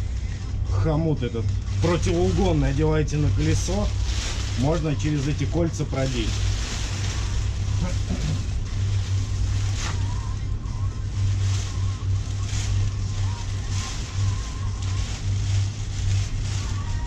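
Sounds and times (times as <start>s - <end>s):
low electrical hum: 0.0s - 17.0s
plastic cover rustling: 0.0s - 17.0s.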